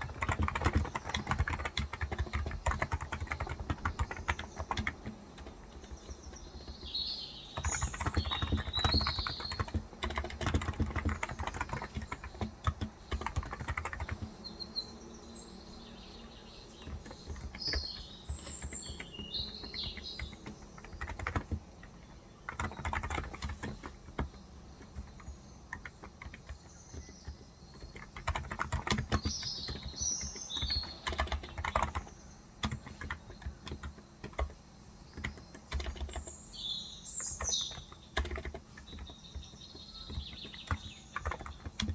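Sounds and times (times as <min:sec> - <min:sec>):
keyboard typing: 0:00.0 - 0:14.3, 0:16.7 - 0:36.4, 0:37.2 - 0:41.9
birds chirping: 0:00.0 - 0:41.9.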